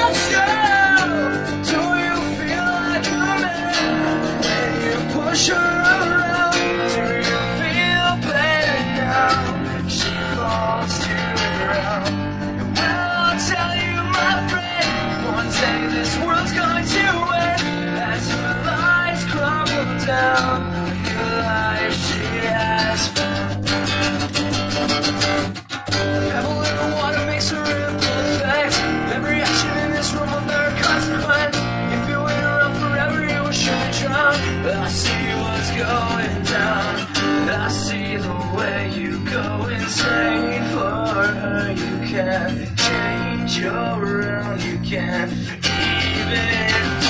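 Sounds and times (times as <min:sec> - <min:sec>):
rock band guitars strumming: 0:00.0 - 0:47.0.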